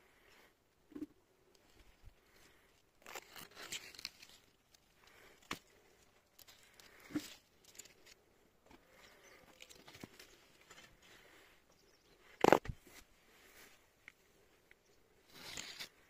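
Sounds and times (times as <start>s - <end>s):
faint rustling and crinkling: 0.1s - 16.0s.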